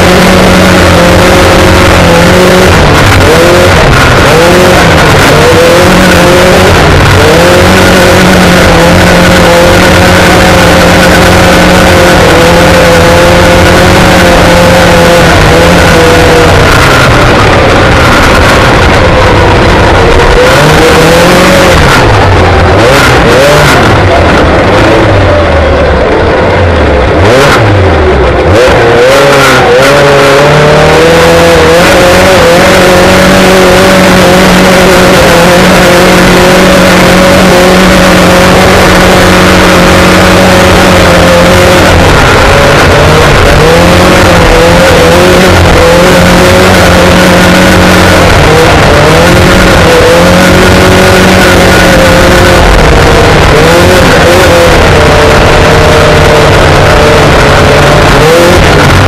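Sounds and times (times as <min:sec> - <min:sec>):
race vehicle engine revving: 0:00.0 - 0:59.0.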